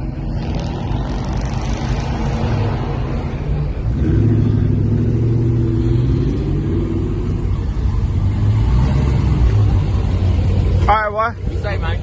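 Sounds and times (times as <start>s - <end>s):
loud car engine running: 0.0s - 12.0s.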